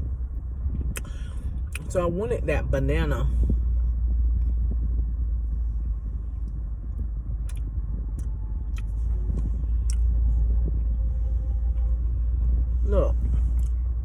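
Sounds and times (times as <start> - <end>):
low rumble inside car cabin: 0.0 - 14.0.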